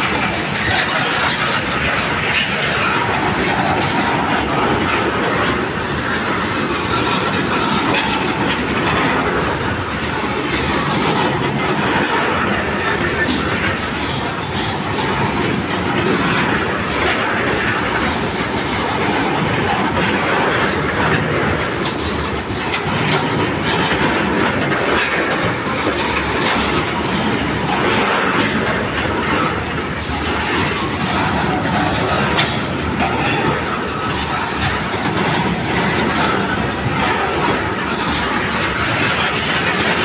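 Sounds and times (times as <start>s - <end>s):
steel wheels rumbling on rails: 0.0s - 40.0s
wheels clacking over rail joints: 0.0s - 40.0s.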